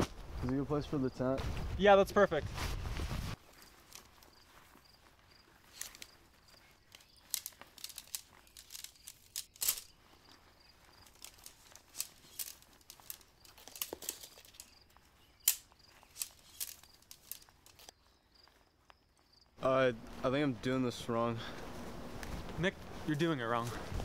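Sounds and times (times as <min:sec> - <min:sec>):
tent fabric rustling and crinkling: 0:00.0 - 0:24.0.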